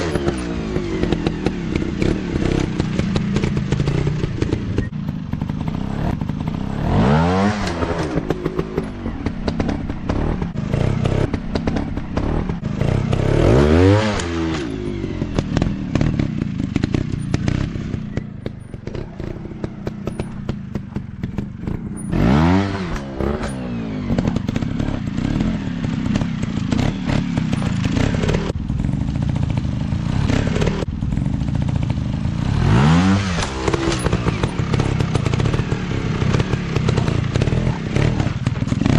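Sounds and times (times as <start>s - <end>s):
bikes clattering over rough ground: 0.0s - 38.9s
dirt bike engines revving: 0.0s - 38.9s.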